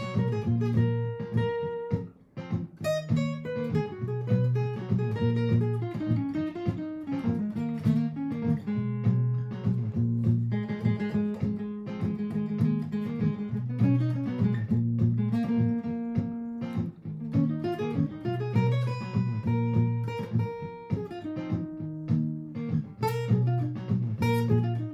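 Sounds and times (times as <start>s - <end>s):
plucked guitar notes: 0.0s - 24.9s.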